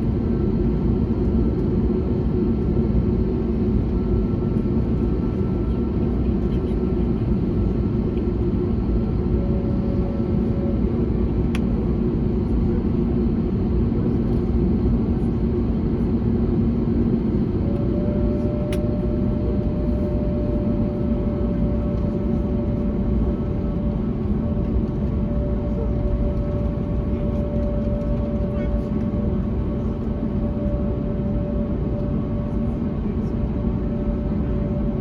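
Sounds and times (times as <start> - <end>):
airplane cabin engine rumble: 0.0 - 35.0.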